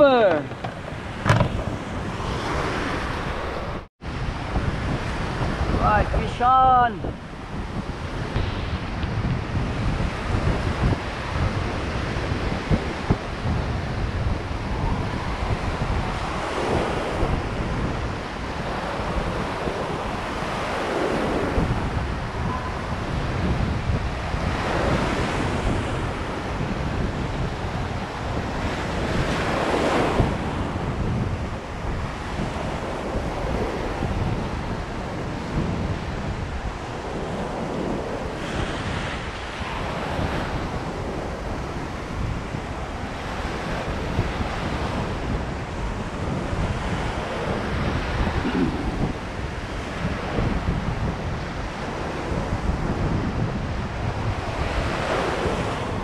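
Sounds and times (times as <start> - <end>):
ocean surf breaking on beach: 0.0 - 56.0
wind buffeting microphone: 0.0 - 56.0.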